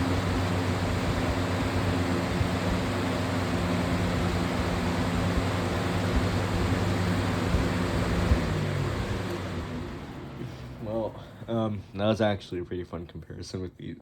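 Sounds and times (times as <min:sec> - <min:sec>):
box fans running: 0:00.0 - 0:12.6.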